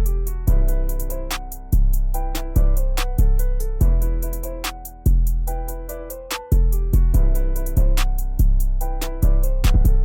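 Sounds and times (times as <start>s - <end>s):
hip-hop beat: 0.0s - 10.0s.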